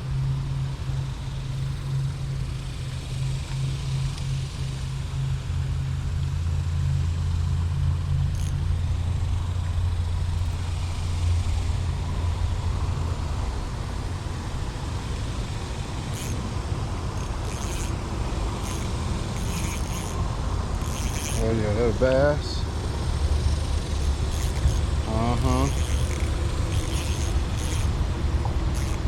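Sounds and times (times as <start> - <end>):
road traffic noise: 0.0 - 29.0
vehicle engine hum: 0.0 - 29.0.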